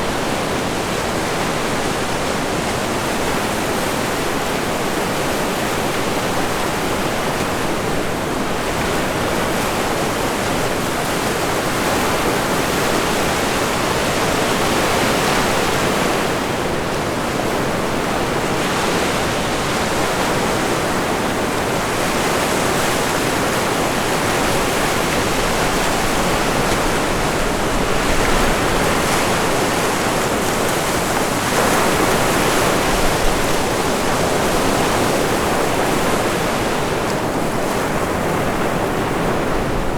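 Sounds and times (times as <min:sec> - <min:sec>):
waves breaking: 0:00.0 - 0:39.9
wind: 0:00.0 - 0:39.9.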